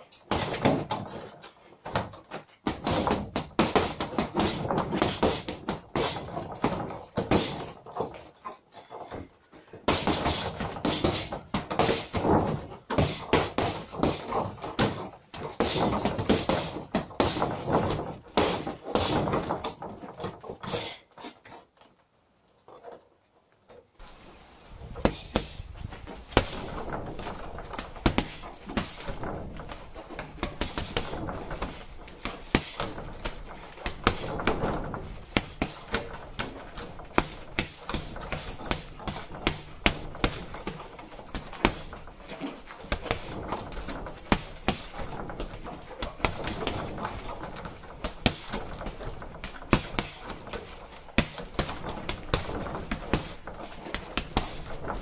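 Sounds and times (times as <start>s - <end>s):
gloves thudding on punching bag: 0.3s - 1.2s, 1.8s - 7.9s, 9.9s - 20.2s, 25.0s - 55.0s.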